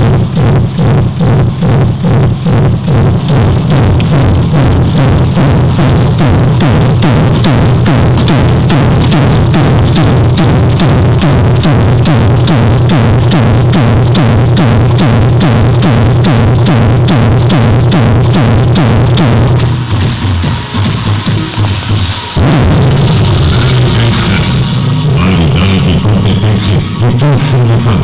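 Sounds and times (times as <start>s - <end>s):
loud electronic dance music: 0.0s - 28.0s.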